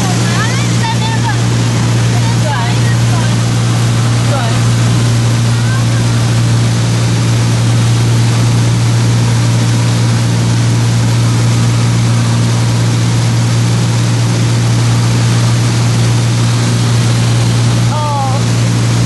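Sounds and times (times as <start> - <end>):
constant rushing noise: 0.0 - 19.0
propeller plane engine humming: 0.0 - 19.0.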